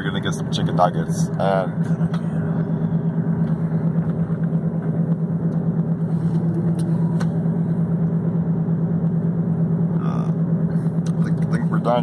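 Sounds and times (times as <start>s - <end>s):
car cabin engine and road hum: 0.0s - 12.0s.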